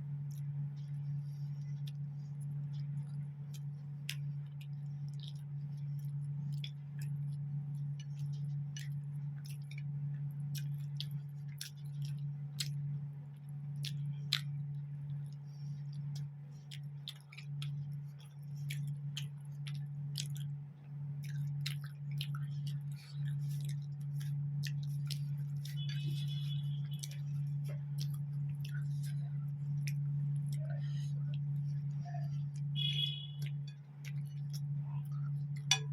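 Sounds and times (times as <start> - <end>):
steady low hum: 0.0 - 35.9
close-up chewing: 0.2 - 35.9.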